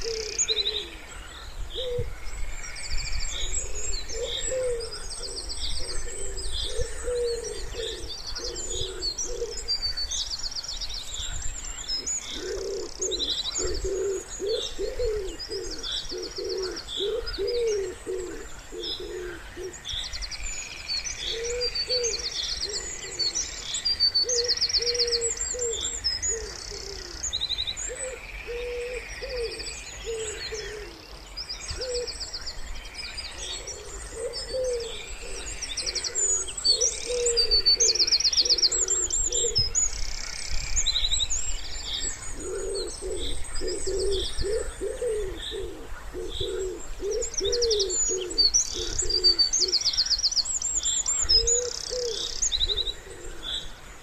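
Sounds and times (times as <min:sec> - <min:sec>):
wood pigeons cooing: 0:00.0 - 0:02.2, 0:03.3 - 0:09.9, 0:11.9 - 0:20.0, 0:21.2 - 0:32.3, 0:33.3 - 0:39.9, 0:42.0 - 0:50.0, 0:51.1 - 0:53.8
songbirds chirping: 0:00.0 - 0:54.0.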